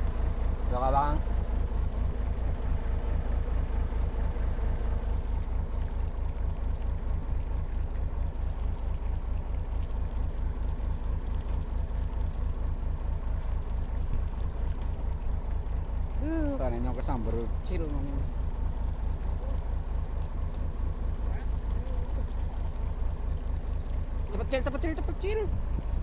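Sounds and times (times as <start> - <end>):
boat engine thumping: 0.0 - 26.0.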